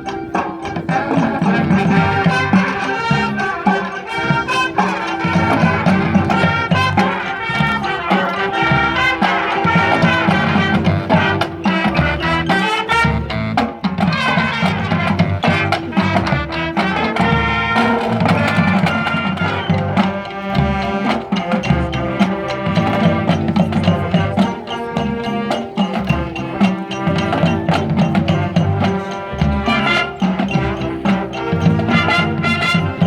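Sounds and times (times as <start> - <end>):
drum strokes: 0.0 - 33.0
marching band playing: 0.0 - 33.0.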